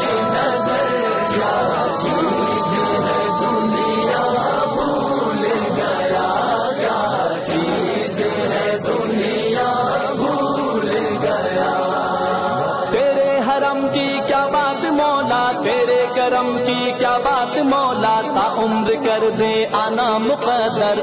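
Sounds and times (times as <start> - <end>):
voices chanting together: 0.0 - 21.0.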